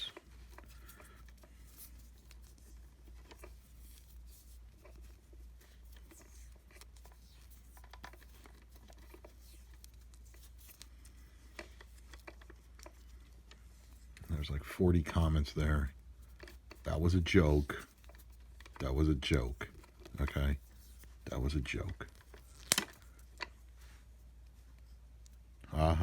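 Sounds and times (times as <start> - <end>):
electrical tape rustling and clicking: 0.0 - 25.7
low steady hum: 0.0 - 26.0.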